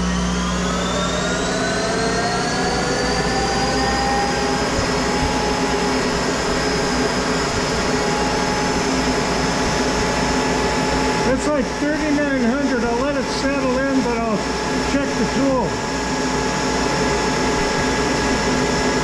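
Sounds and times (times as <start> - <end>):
lathe spindle whine: 0.0 - 19.0.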